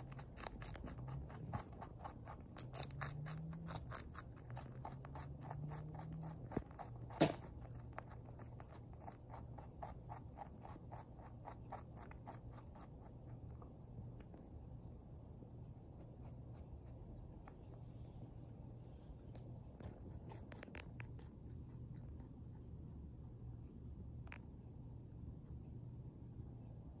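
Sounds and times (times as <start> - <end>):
rabbit chewing lettuce: 0.0 - 27.0.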